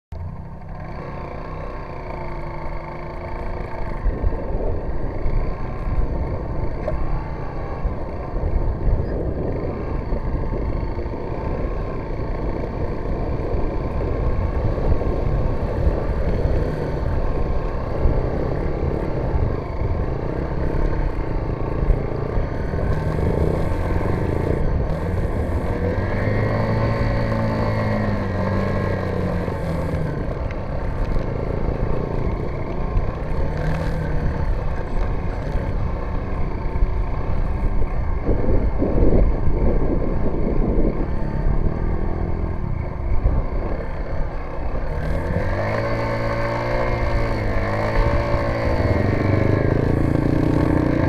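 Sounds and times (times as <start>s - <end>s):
dirt bike engine running: 0.1s - 51.0s.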